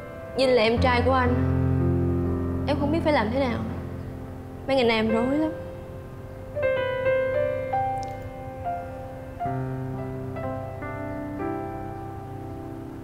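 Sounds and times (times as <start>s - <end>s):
slow soft piano music: 0.0s - 13.0s.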